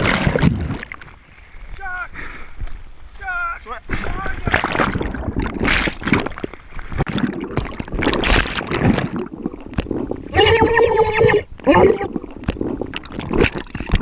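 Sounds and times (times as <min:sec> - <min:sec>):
water bubbling and splashing: 0:00.0 - 0:01.8, 0:03.8 - 0:14.0.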